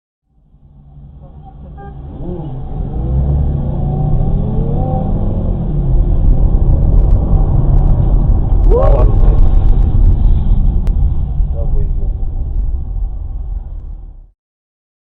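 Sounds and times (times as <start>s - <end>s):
car engine and road noise: 0.2s - 14.3s.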